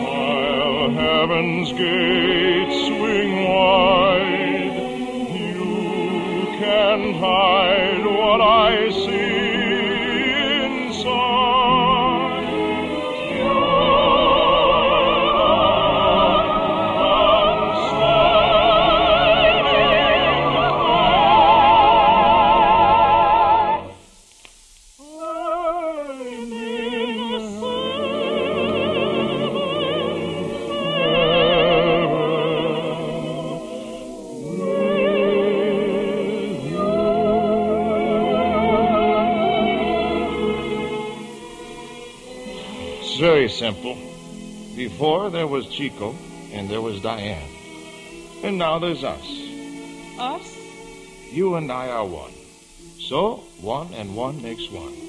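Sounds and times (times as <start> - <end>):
operatic singing: 0.0 - 24.0, 25.0 - 55.0
orchestra: 0.0 - 24.1, 25.0 - 55.0.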